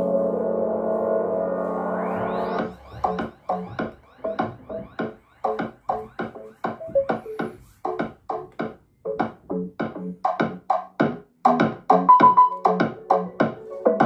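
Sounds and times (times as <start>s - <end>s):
electronic dance music: 0.0s - 14.0s.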